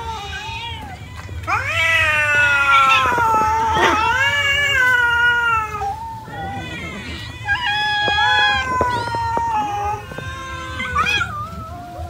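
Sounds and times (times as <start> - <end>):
cats meowing: 0.0 - 12.0.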